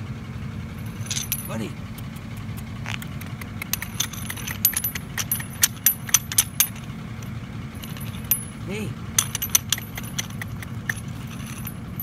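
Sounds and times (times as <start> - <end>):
vehicle engine idling: 0.0 - 12.0
sharp metallic clicks: 1.0 - 8.5, 9.2 - 11.8.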